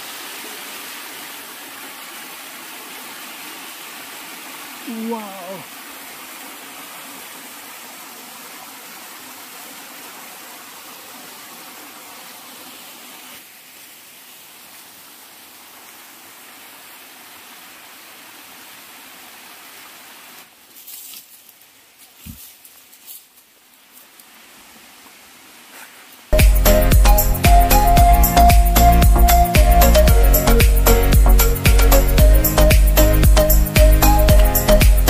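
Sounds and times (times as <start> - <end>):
small waterfall rushing: 0.0 - 20.7, 23.4 - 35.0.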